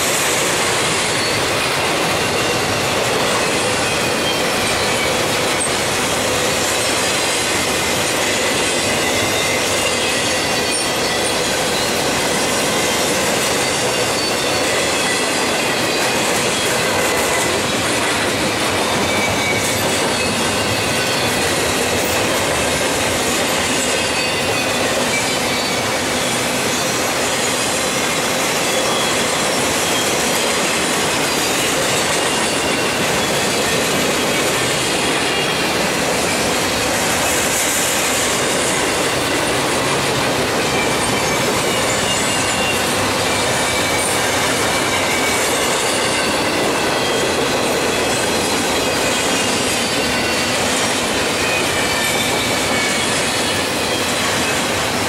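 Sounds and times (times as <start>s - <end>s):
high wheel squeal: 0.0s - 55.0s
steel wheels rumbling on rail: 0.0s - 55.0s.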